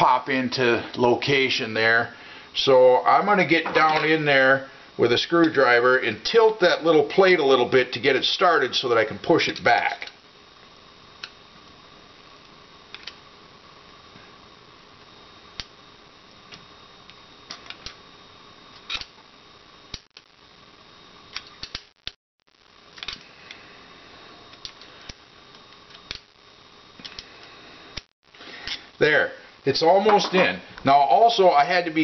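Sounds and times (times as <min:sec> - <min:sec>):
steady hiss: 0:00.0 - 0:21.8, 0:22.6 - 0:32.0.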